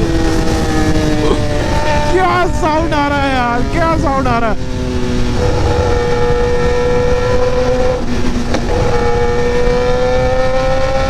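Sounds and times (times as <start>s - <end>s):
motorcycle engine at high revs: 0.0s - 11.0s
wind and road noise: 0.0s - 11.0s.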